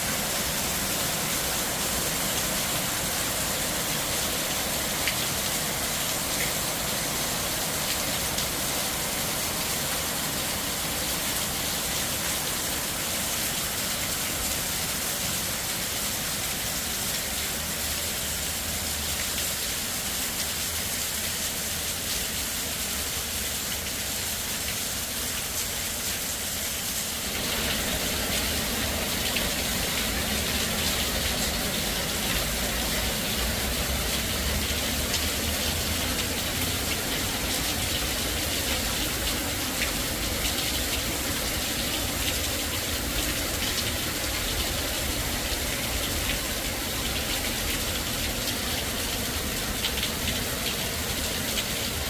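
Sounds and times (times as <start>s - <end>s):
heavy rain downpour: 0.0s - 52.0s.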